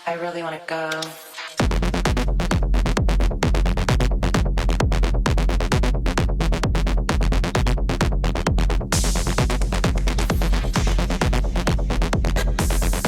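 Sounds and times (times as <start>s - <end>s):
techno music: 0.0s - 13.0s.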